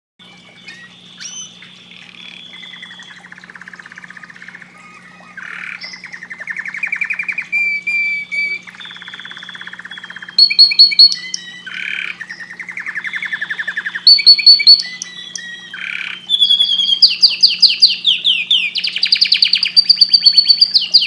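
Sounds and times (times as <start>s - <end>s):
canary singing trills: 0.2s - 21.0s.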